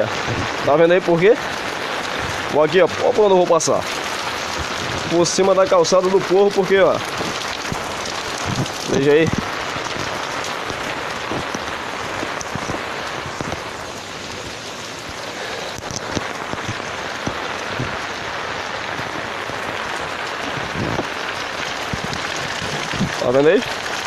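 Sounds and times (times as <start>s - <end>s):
heavy rain falling: 0.0s - 24.0s
raindrops tapping on umbrella: 0.0s - 24.0s.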